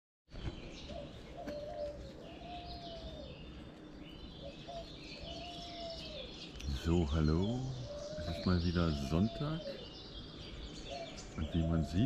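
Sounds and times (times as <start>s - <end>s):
songbirds singing and chirping: 0.3s - 12.0s
low drawn-out bird call: 0.4s - 12.0s.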